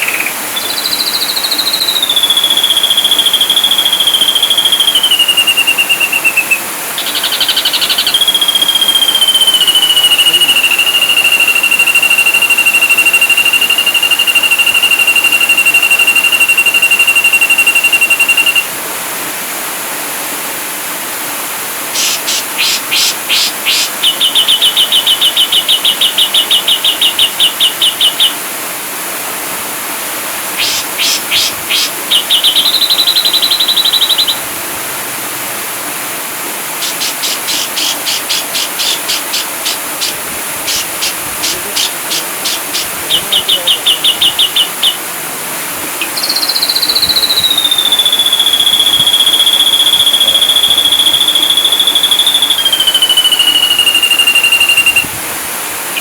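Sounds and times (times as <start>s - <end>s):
bird singing whistles and trills: 0.0s - 18.7s, 22.0s - 28.4s, 30.6s - 34.5s, 36.8s - 45.0s, 46.0s - 55.1s
steady hiss: 0.0s - 56.0s.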